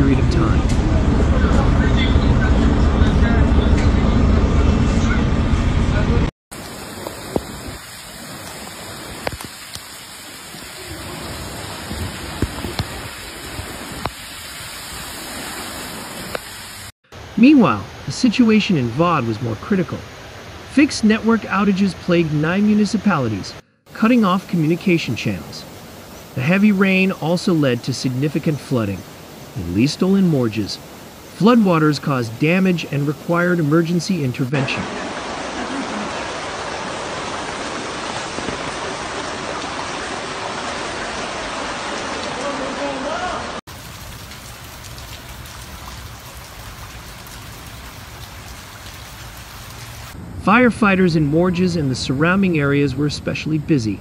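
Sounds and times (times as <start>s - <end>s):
heavy rain falling: 6.2s - 50.2s
floodwater rushing: 6.5s - 50.7s.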